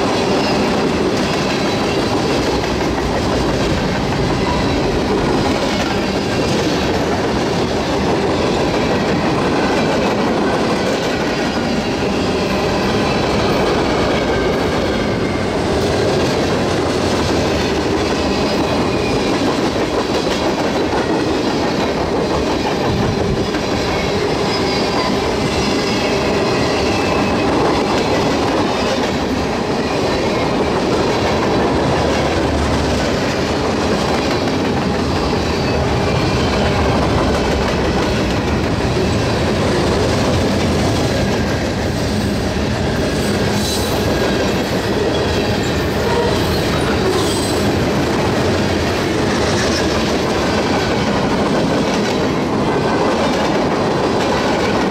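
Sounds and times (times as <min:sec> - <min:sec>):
freight train wheels clacking: 0:00.0 - 0:54.9.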